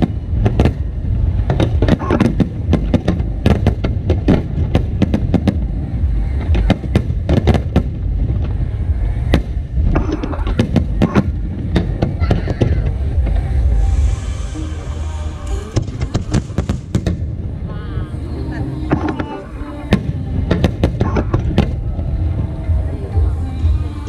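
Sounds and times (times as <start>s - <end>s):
fireworks bangs: 0.0s - 17.8s, 18.8s - 22.8s
low rumble: 0.0s - 24.0s.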